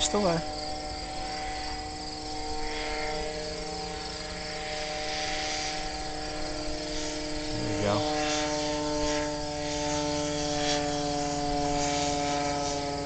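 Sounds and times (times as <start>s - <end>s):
distant engine drone: 0.0s - 13.0s
insects chirping: 0.0s - 13.0s.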